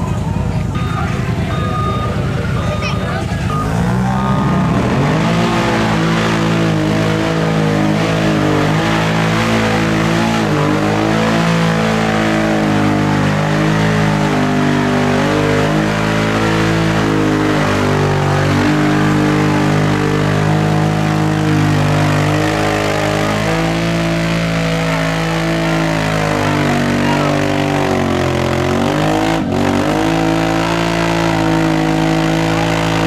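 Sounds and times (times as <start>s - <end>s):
tyres churning through mud: 0.0s - 33.0s
atv engine revving hard: 3.5s - 33.0s.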